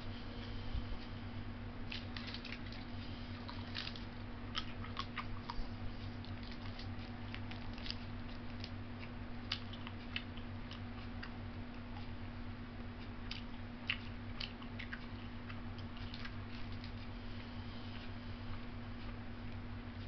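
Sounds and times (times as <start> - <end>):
steady low room hum: 0.0 - 20.0
man chewing with mouth smacks: 1.9 - 12.4, 13.0 - 19.6.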